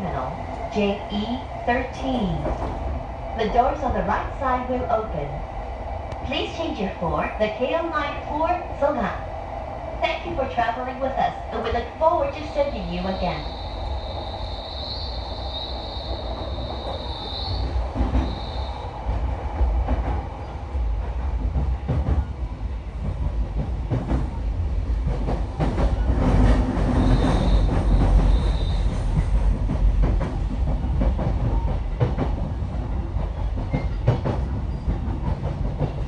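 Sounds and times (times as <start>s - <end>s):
train interior rumble: 0.0s - 36.0s.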